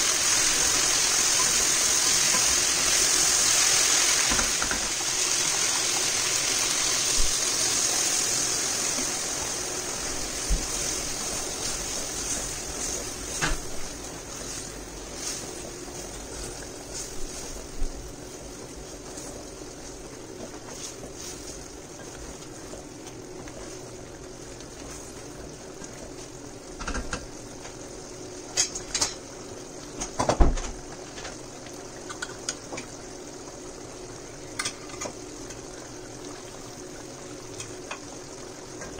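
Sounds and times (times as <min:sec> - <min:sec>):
pot simmering: 0:00.0 - 0:38.9.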